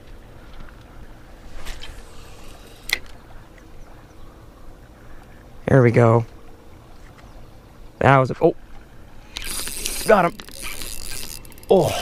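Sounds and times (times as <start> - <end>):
pond-side ambience: 0.0 - 12.0.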